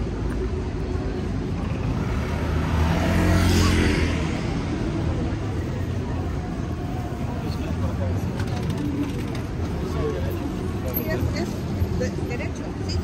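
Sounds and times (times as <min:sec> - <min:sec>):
steady traffic hum: 0:00.0 - 0:13.0
motor vehicle passing by: 0:01.5 - 0:12.1.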